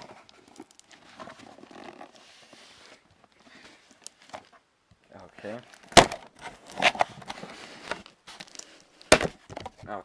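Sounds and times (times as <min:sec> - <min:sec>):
cardboard rustling and scraping: 0:00.0 - 0:04.6, 0:05.3 - 0:10.0.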